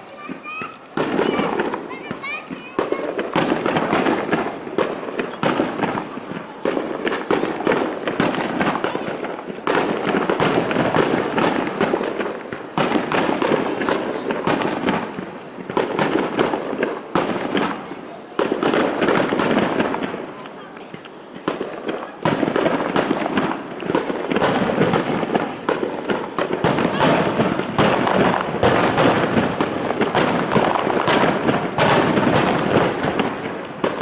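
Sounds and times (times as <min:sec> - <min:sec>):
fireworks bursts and bangs: 0:00.0 - 0:34.0
fireworks crackle: 0:00.0 - 0:34.0.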